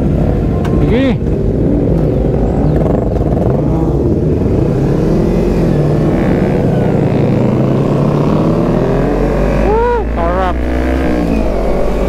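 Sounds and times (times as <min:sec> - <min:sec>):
motorcycle engine revving: 0:01.4 - 0:12.0.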